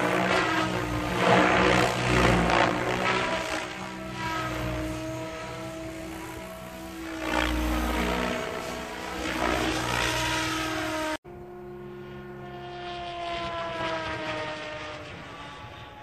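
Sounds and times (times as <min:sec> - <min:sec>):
electric motor whine: 0:00.0 - 0:16.0
rotor blades rushing: 0:00.0 - 0:16.0.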